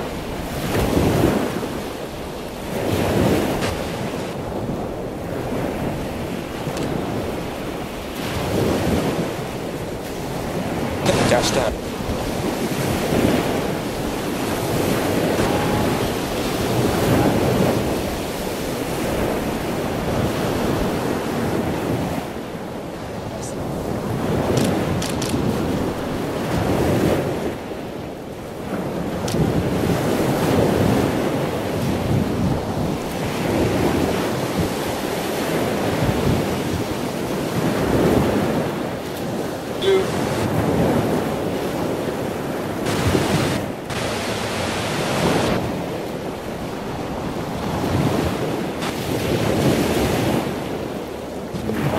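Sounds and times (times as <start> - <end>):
surf at the seashore: 0.0 - 51.9
wind: 0.0 - 51.9.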